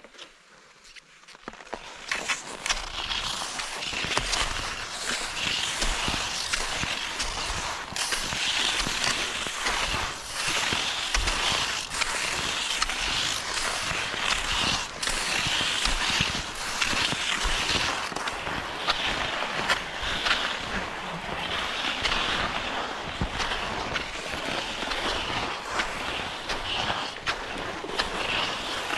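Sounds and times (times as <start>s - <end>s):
skis swishing on snow: 0.0s - 28.9s
ski poles ticking in snow: 0.9s - 28.9s.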